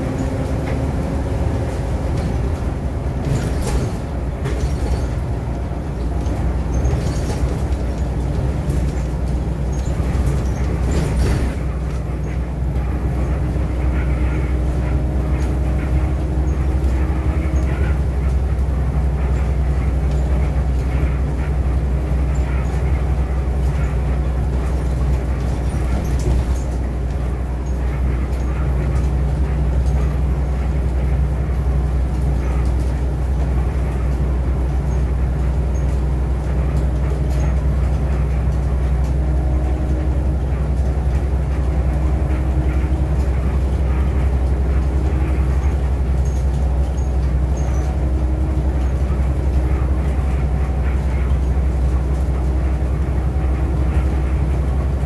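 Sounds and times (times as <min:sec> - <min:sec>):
bus engine drone: 0:00.0 - 0:55.0
road and tyre noise: 0:00.0 - 0:55.0.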